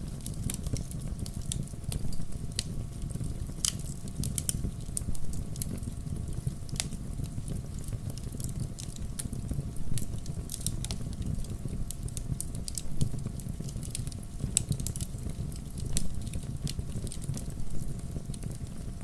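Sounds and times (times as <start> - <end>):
campfire flames rumbling: 0.0 - 19.0
fire crackling and popping: 0.0 - 19.0.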